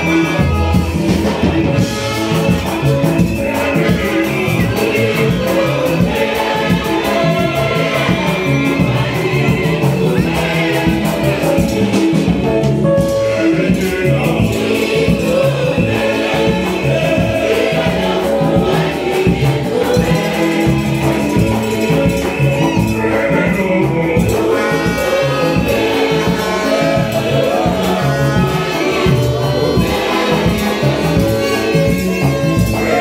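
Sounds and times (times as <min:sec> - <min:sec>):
choir singing a hymn: 0:00.0 - 0:33.0
percussion beat: 0:00.0 - 0:33.0.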